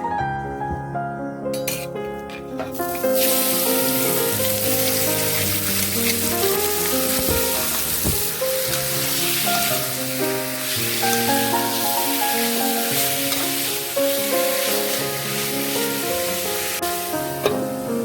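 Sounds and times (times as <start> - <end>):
background music: 0.0 - 18.0
food sizzling in a pan: 2.7 - 18.0.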